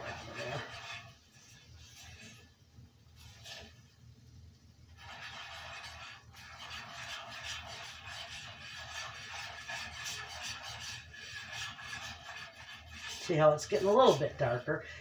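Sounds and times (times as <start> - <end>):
utensil scraping a skillet: 0.0 - 4.0, 4.8 - 14.8.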